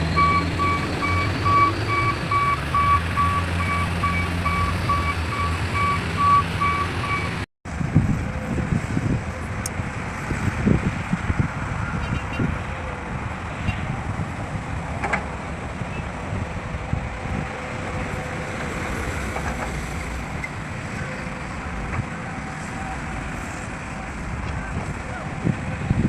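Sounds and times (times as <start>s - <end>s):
heavy construction machinery running: 0.0s - 11.9s, 12.6s - 26.0s.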